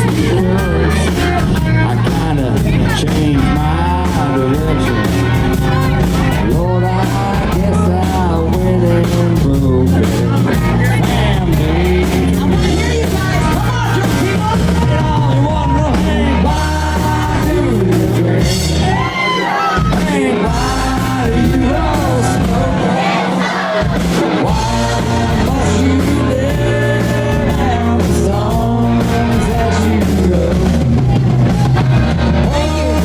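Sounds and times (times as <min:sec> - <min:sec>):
heavy bass line: 0:00.0 - 0:33.0
rock song with singer: 0:00.0 - 0:33.0.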